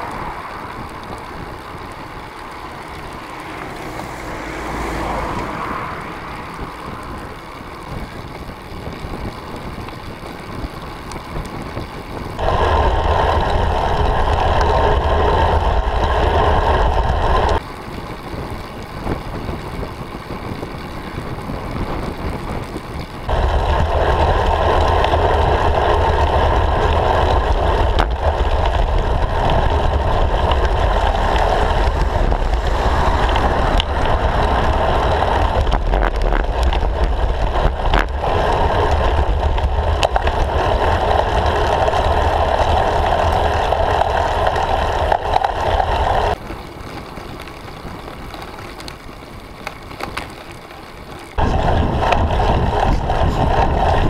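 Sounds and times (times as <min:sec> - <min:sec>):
deep rumble: 0:00.0 - 0:10.5, 0:12.2 - 0:17.6, 0:21.4 - 0:46.4, 0:51.3 - 0:54.0
tyre and road noise: 0:00.0 - 0:54.0
wind rushing over microphone: 0:00.0 - 0:54.0.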